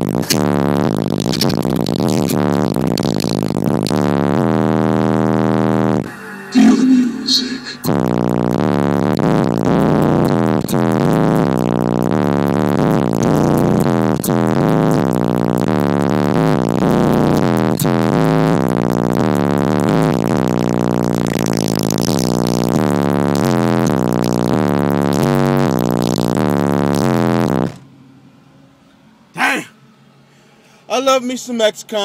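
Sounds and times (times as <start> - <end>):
bass-heavy music from car stereo: 0.0 - 27.8.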